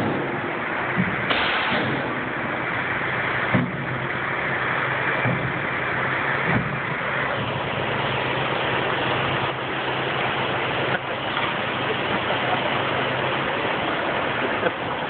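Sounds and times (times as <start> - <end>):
noisy rumble: 0.0 - 15.0
truck engine low hum: 0.0 - 15.0.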